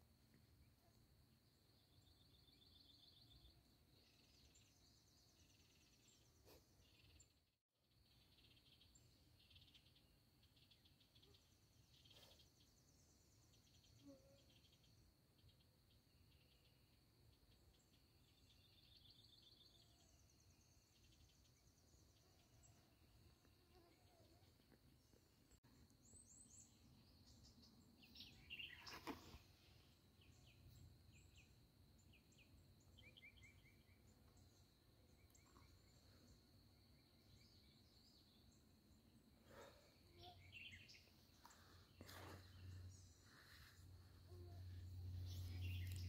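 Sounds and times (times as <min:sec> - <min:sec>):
insect hum: 0:00.0 - 0:46.0.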